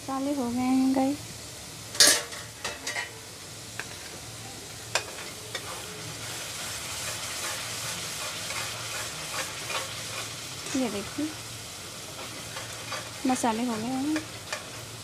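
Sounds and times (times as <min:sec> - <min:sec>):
paste sizzling in a pan: 0:00.1 - 0:15.0.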